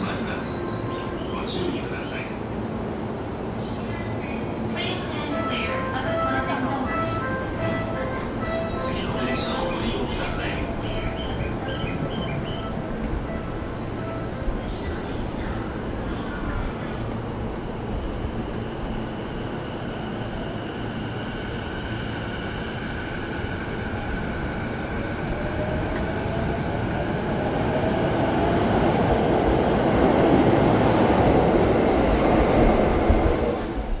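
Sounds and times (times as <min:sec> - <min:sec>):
rumble of train wheels: 0:00.0 - 0:34.0.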